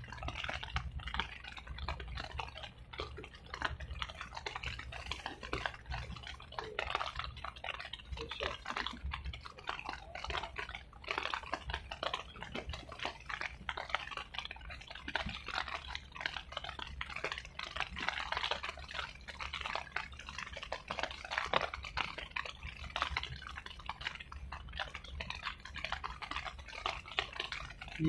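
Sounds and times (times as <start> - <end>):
water patter and splashing: 0.0 - 28.0.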